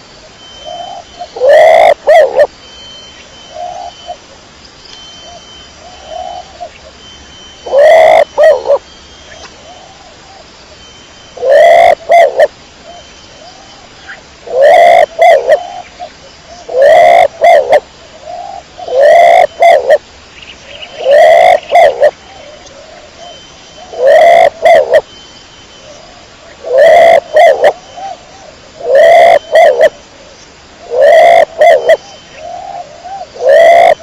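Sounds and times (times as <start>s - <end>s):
pigeon calling: 0.5s - 2.5s, 5.1s - 10.4s, 11.3s - 16.1s, 16.7s - 20.0s, 20.9s - 30.0s, 30.8s - 34.0s.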